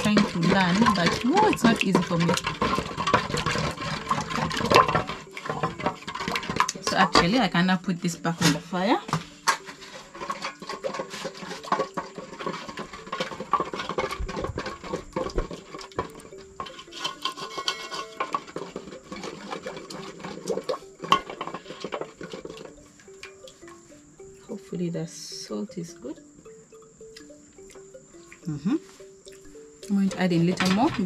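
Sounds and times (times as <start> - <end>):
wooden stick scraping metal pot: 0.0 - 24.8, 25.5 - 31.0.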